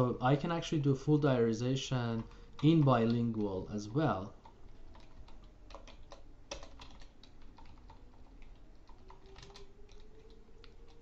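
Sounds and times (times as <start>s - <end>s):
keyboard typing: 2.0s - 11.0s.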